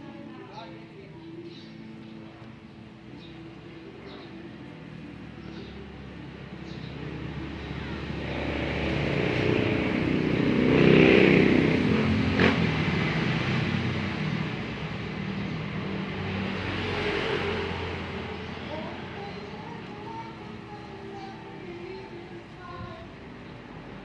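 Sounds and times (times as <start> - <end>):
vehicle engine passing by: 3.5 - 24.0.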